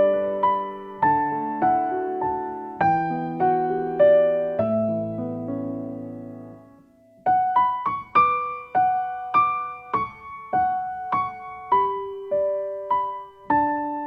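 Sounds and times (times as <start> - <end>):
held piano chord: 0.0 - 14.0
slow piano melody: 0.0 - 14.0.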